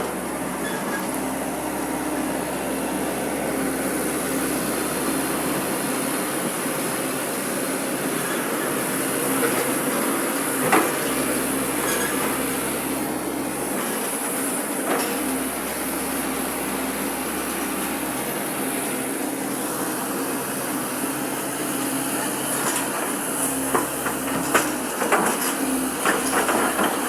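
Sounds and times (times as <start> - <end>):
excavator running: 0.0 - 27.0.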